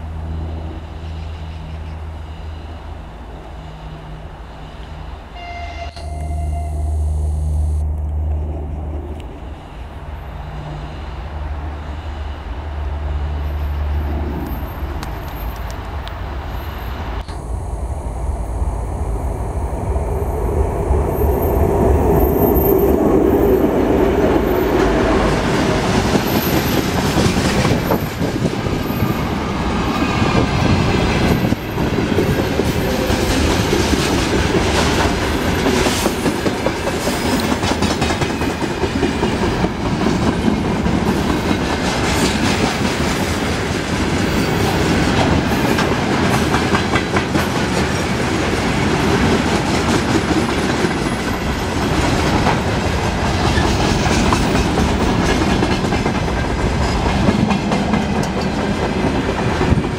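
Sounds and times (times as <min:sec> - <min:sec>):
diesel locomotive engine droning: 0:00.0 - 0:59.9.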